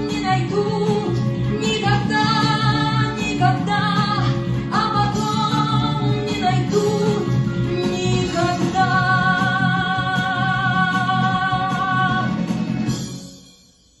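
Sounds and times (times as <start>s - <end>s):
pop band accompaniment: 0.0s - 13.5s.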